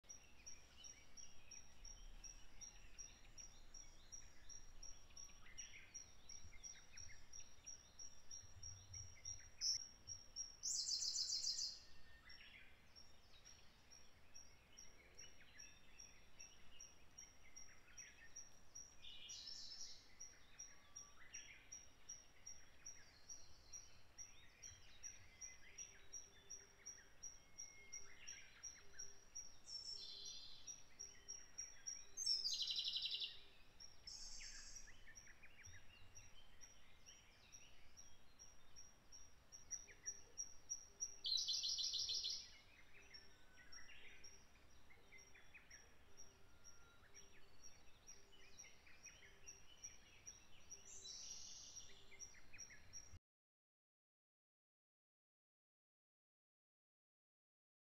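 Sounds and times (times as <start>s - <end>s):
birdsong: 0.0s - 53.2s.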